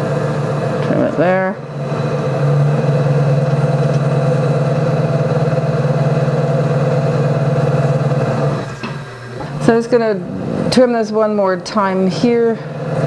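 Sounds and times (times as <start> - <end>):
potter's wheel motor humming: 0.0 - 13.0.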